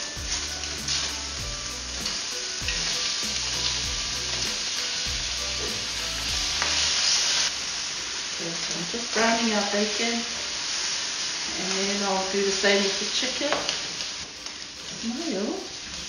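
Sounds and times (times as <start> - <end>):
bacon sizzling in a pan: 0.0 - 16.0.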